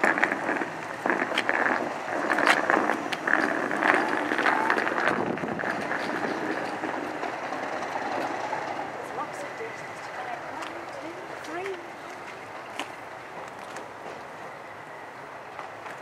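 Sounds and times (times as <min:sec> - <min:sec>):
wheels clicking over points: 0:00.0 - 0:14.2
diesel engine drone: 0:00.0 - 0:16.0.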